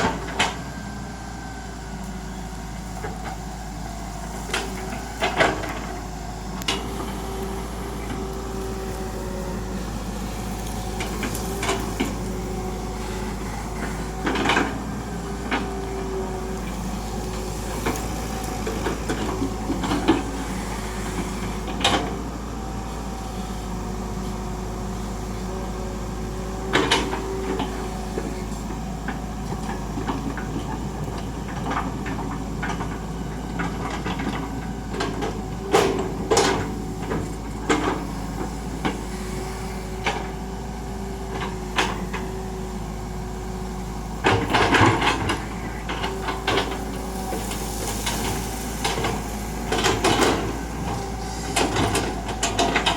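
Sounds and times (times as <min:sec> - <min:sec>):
excavator clunks and knocks: 0:00.0 - 0:00.9, 0:02.0 - 0:22.9, 0:26.4 - 0:52.9
excavator engine running: 0:00.0 - 0:52.9.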